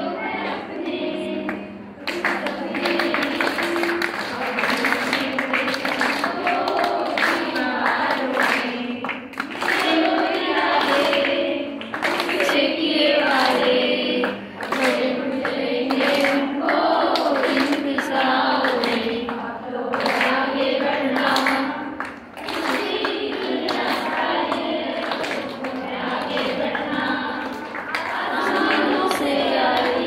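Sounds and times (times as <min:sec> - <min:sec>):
women singing in unison: 0:00.0 - 0:30.0.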